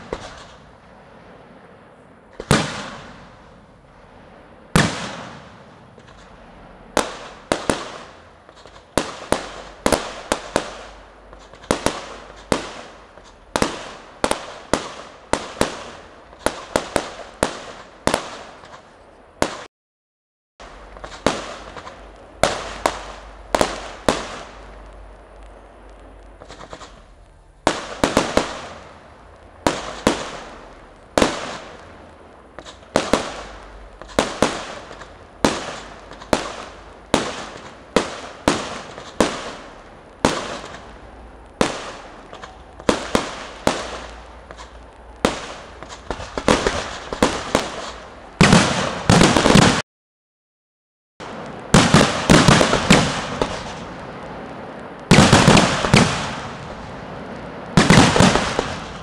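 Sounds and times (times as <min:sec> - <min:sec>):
fireworks bursting with sharp bangs: 0:00.0 - 0:19.7, 0:20.6 - 0:49.8, 0:51.2 - 0:59.0.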